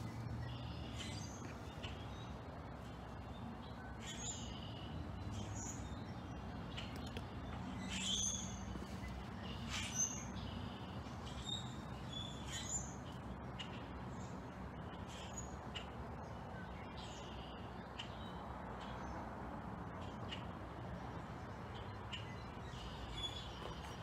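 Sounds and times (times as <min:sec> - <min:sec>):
blackbirds chirping: 0:00.0 - 0:20.8, 0:21.6 - 0:24.0.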